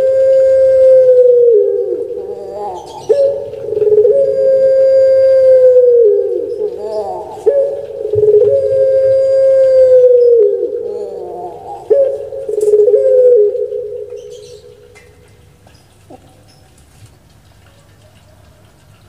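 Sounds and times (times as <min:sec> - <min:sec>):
dove cooing loudly: 0:00.0 - 0:15.4.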